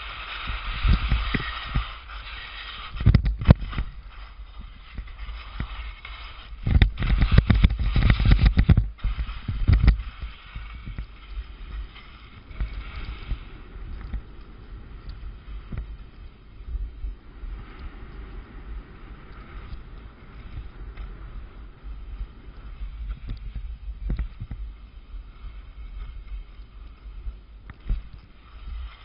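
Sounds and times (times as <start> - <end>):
skis scraping over snow: 0.0 - 29.0.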